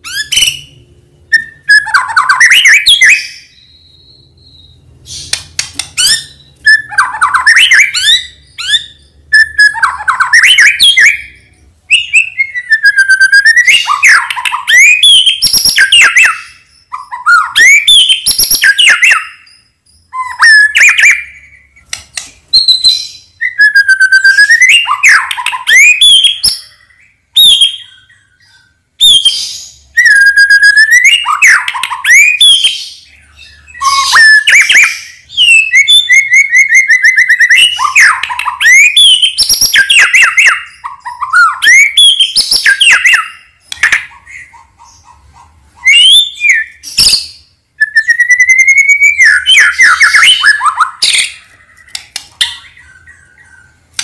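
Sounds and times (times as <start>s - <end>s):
songbird whistling and trilling: 0.0s - 54.0s.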